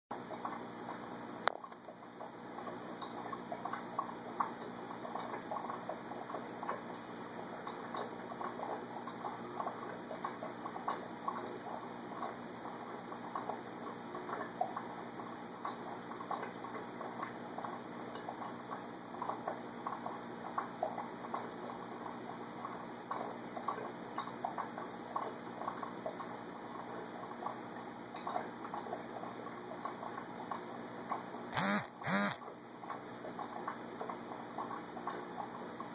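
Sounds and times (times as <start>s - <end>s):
aquarium bubbling: 0.1s - 35.9s
faint steady hum: 0.1s - 35.9s.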